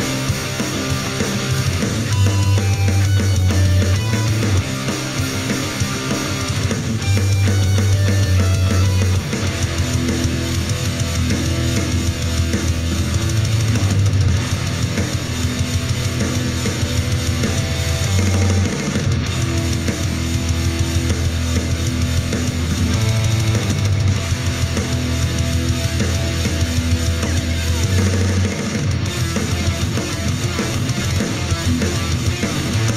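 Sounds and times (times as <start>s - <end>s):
rock music with guitar and drums: 0.0s - 32.9s.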